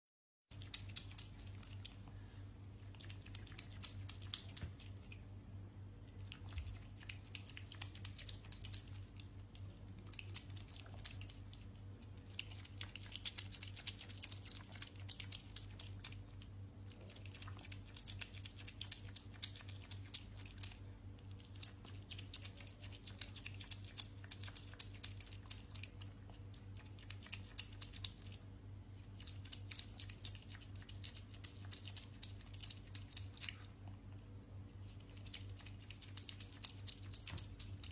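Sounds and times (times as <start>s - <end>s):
otter crunching kibble: 0.5s - 5.4s, 6.0s - 37.9s
steady low hum: 0.5s - 37.9s.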